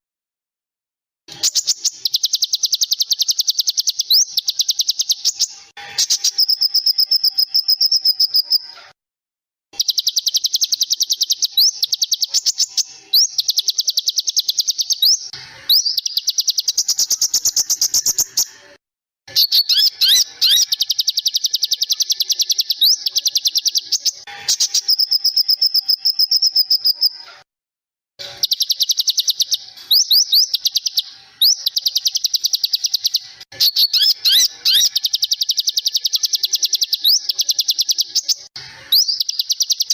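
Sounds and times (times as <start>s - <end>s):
songbirds singing fast trills: 1.3s - 8.7s, 9.8s - 18.5s, 19.3s - 27.2s, 28.2s - 39.9s
upward-sweeping bird whistles: 1.4s - 8.7s, 9.8s - 18.5s, 19.3s - 27.2s, 28.4s - 39.9s.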